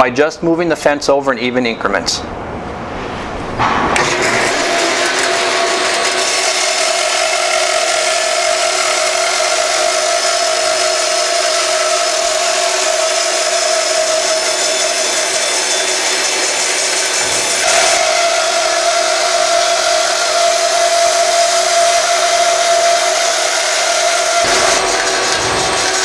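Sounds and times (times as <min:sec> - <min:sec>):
bandsaw cutting wood: 0:04.0 - 0:26.0.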